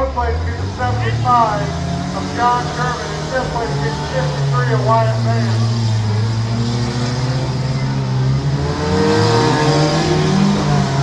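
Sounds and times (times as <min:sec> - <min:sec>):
car engines running: 0:00.0 - 0:11.0
engine revving: 0:00.0 - 0:11.0.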